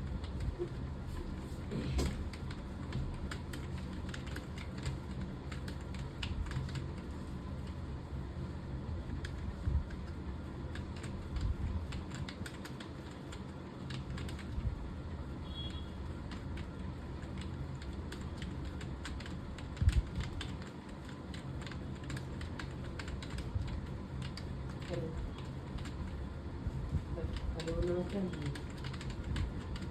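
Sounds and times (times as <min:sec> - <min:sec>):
computer keyboard typing: 0:00.0 - 0:00.9, 0:01.8 - 0:07.9, 0:09.0 - 0:14.8, 0:15.4 - 0:26.4, 0:27.0 - 0:29.9.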